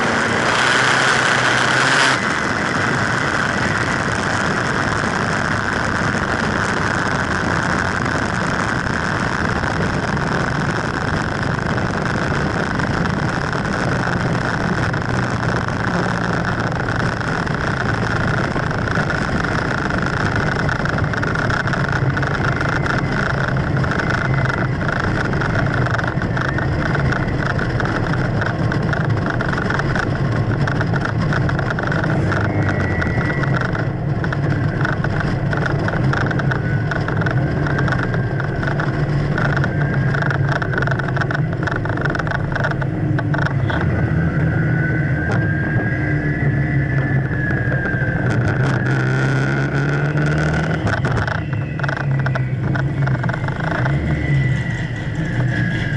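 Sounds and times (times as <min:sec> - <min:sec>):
car engine drone: 0:00.0 - 0:55.9
high whine: 0:00.0 - 0:55.9
tyre and wind noise: 0:00.0 - 0:55.9
wind buffeting microphone: 0:00.0 - 0:55.9.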